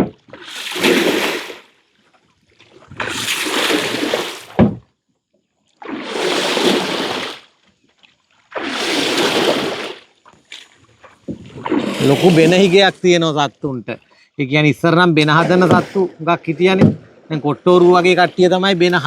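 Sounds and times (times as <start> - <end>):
water churning and splashing: 0.0 - 4.8, 5.8 - 13.2, 15.0 - 19.0.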